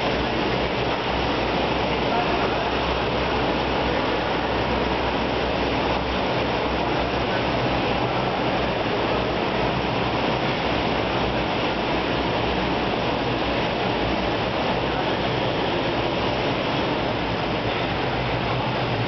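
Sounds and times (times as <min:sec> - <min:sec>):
turboprop engine running: 0:00.0 - 0:19.0.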